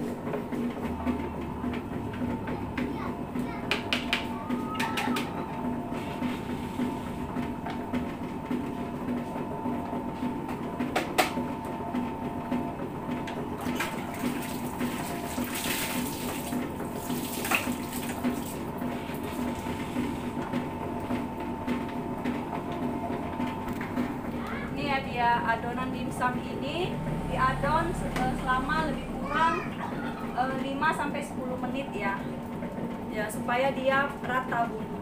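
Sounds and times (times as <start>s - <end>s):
mixing machine motor humming: 0.0s - 35.0s.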